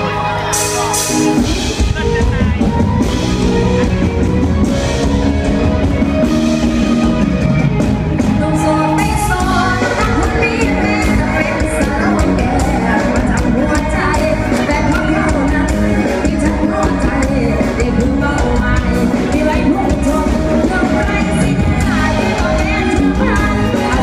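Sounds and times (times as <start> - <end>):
band music with singing: 0.0 - 24.0.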